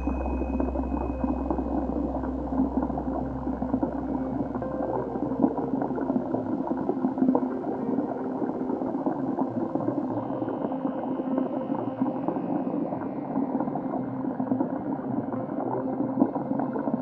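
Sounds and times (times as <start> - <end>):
underwater bubbling and gurgling: 0.0 - 17.0.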